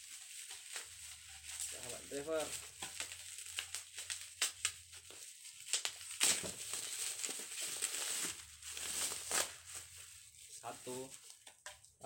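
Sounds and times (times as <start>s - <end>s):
packaging crinkling: 0.0s - 11.8s.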